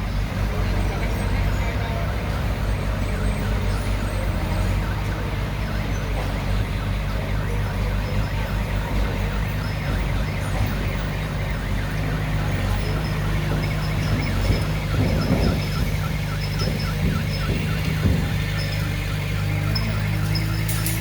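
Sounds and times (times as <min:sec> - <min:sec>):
diesel machinery engine drone: 0:00.0 - 0:21.0.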